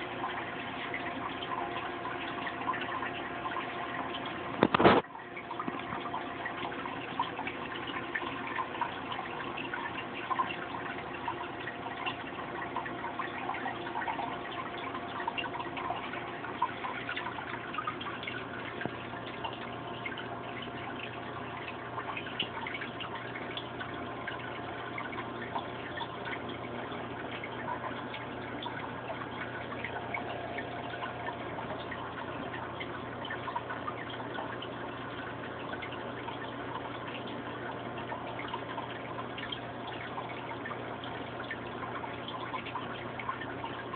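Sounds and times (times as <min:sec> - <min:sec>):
faint steady hum: 0:00.0 - 0:43.9
water trickling and splashing: 0:00.0 - 0:43.9.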